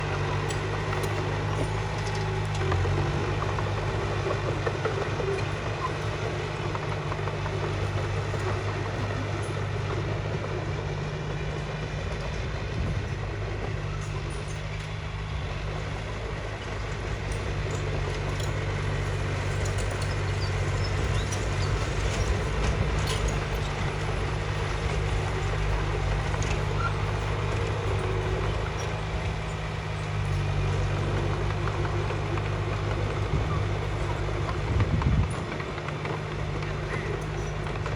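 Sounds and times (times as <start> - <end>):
bulldozer diesel engine humming: 0.0 - 37.9.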